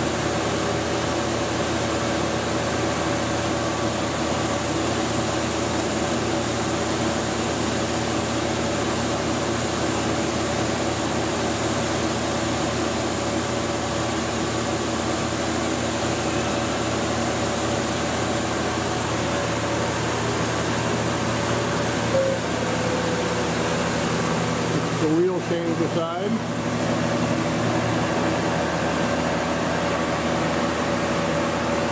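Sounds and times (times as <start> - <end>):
machine hum and hiss: 0.0 - 31.9.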